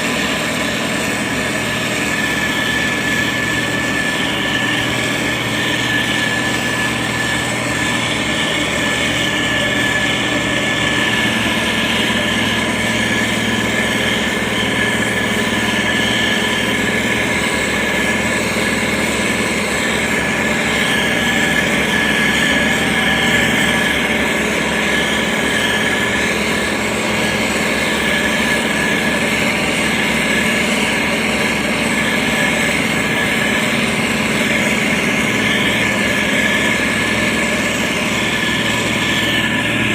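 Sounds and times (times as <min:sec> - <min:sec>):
construction machinery engine drone: 0:00.0 - 0:39.9
high machine whine: 0:00.0 - 0:39.9.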